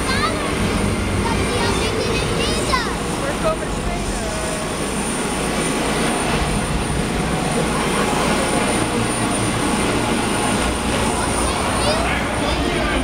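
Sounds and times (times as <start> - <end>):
helicopter rotor and engine: 0.0 - 13.0
high steady whine: 0.0 - 13.0.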